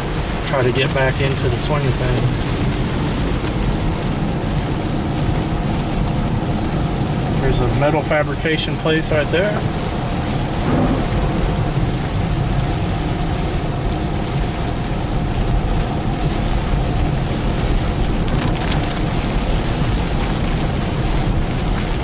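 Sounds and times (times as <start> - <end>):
heavy rain on a car: 0.0 - 22.0
road and tyre rumble: 0.0 - 22.0.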